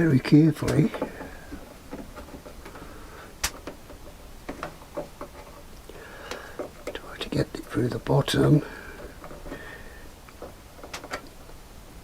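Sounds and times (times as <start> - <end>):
small parts clicking and tapping: 0.6 - 11.6.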